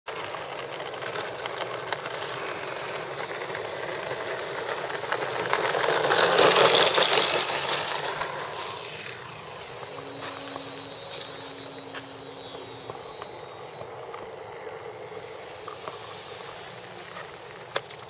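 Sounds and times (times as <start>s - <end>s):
model plane electric motor: 0.1s - 18.0s.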